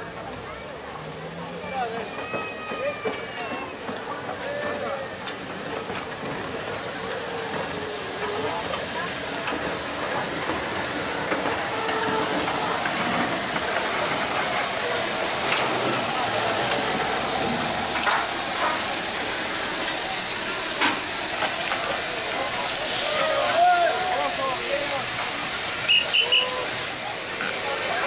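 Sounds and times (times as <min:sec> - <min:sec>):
steam locomotive hissing steam: 0:00.0 - 0:28.0.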